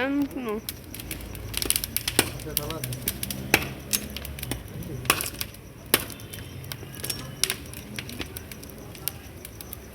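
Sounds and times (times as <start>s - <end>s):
bonfire crackling and popping: 0.0s - 9.9s.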